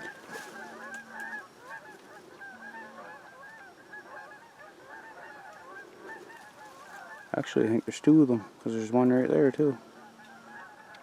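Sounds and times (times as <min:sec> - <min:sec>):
faint steady hum: 0:00.0 - 0:11.0
geese honking: 0:00.0 - 0:11.0.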